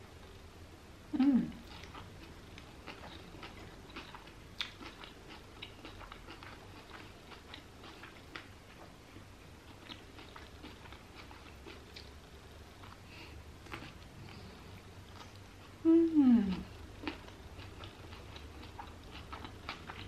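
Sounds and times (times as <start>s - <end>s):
chewing: 1.6s - 15.8s, 16.5s - 20.0s.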